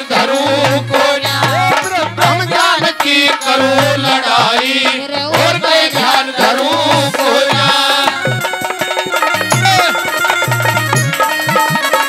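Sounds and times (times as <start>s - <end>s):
man singing into a microphone: 0.0s - 10.5s.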